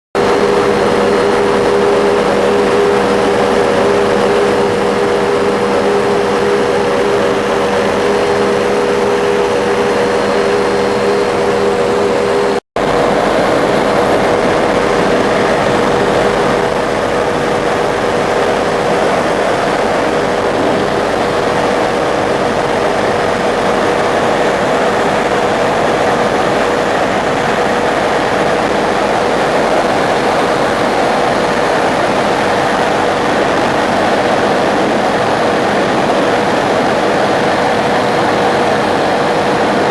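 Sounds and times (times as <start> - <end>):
helicopter engine and rotor drone: 0.2 - 39.9.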